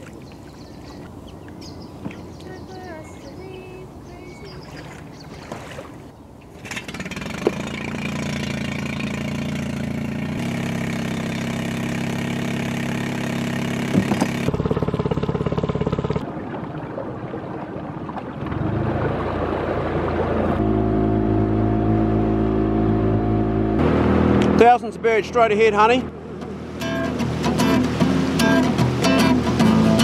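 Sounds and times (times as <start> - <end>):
outboard motor running: 0.0 - 30.0.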